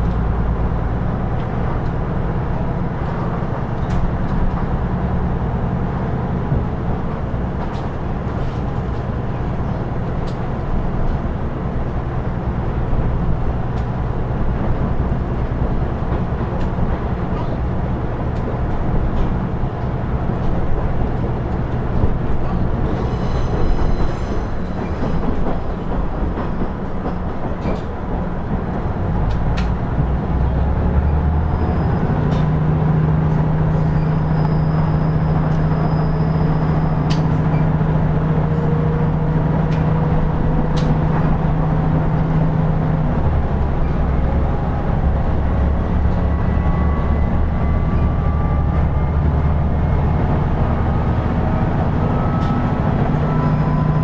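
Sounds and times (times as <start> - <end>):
diesel railcar engine drone: 0.0 - 54.0.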